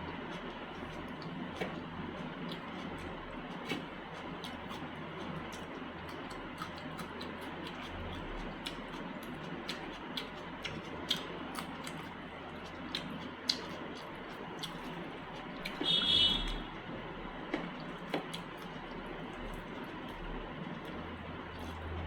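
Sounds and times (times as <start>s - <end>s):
wet mouth chewing clicks: 0.0s - 16.6s, 17.5s - 22.0s.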